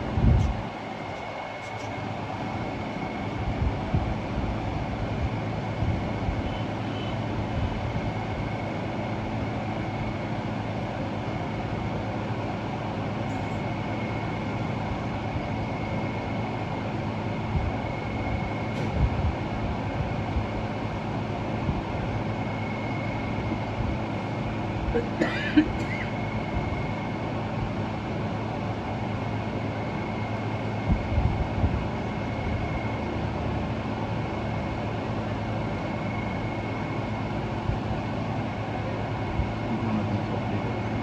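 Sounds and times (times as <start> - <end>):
machine running rumble: 0.0 - 41.0.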